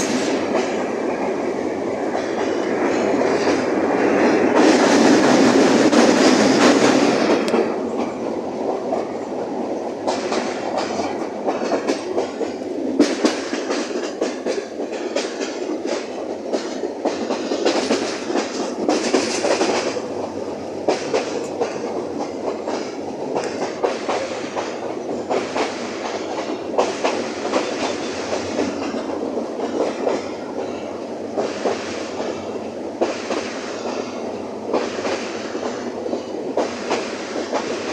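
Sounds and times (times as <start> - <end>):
train rumbling: 0.0 - 37.9
train wheels clicking over rail joints: 0.0 - 37.9.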